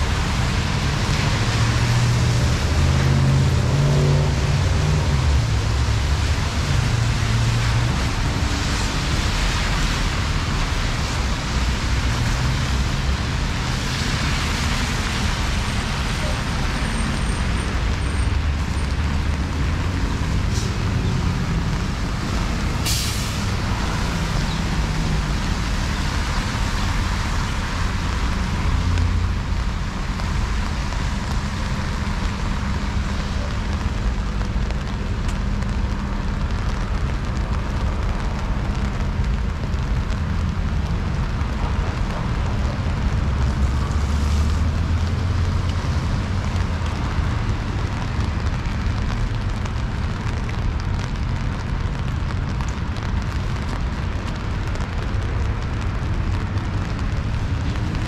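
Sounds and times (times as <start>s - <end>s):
passing vehicles rumbling: 0.0s - 58.0s
wet road noise: 0.0s - 58.0s
rain hissing: 0.1s - 58.0s.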